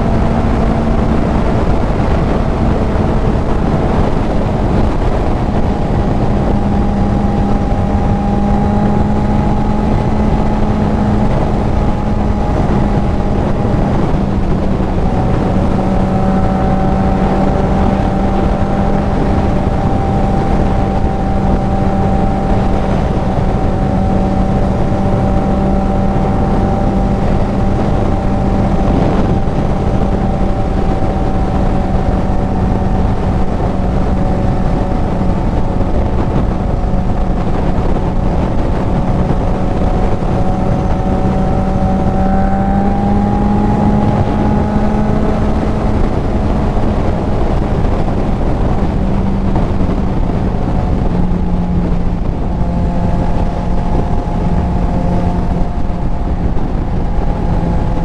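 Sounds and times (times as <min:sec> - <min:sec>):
motorcycle engine cruising: 0:00.0 - 0:58.0
wind rush on microphone: 0:00.0 - 0:58.0.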